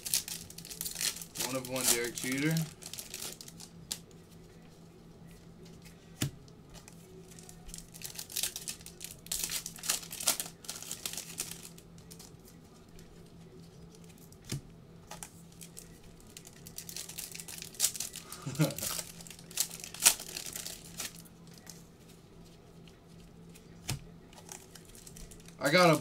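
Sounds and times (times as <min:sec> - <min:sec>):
foil wrappers crinkling and tearing: 0:00.0 - 0:04.2, 0:06.8 - 0:14.5, 0:15.1 - 0:21.8, 0:22.8 - 0:26.0.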